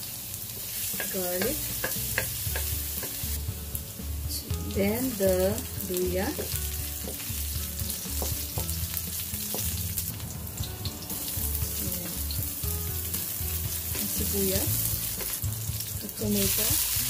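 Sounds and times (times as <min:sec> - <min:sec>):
aromatics sizzling in hot oil: 0:00.0 - 0:17.0.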